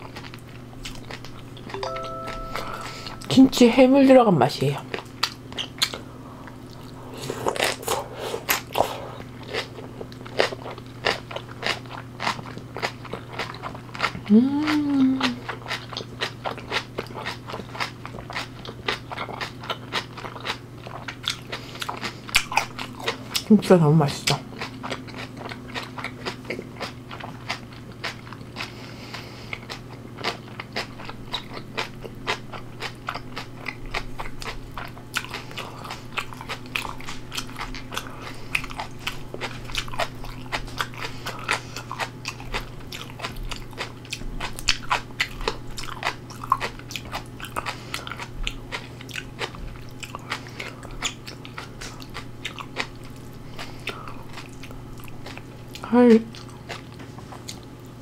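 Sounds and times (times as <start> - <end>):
crunchy chewing: 0.0 - 1.8, 4.9 - 23.5, 24.2 - 58.0.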